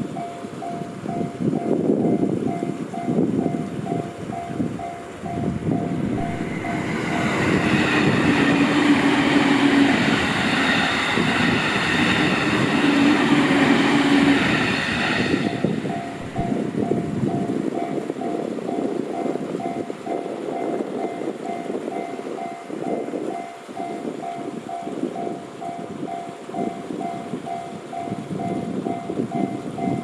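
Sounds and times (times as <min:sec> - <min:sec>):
crossing warning bell: 0:00.0 - 0:30.0
train wheels knocking on rail joints: 0:00.0 - 0:30.0
wheels rushing on rail: 0:00.0 - 0:30.0.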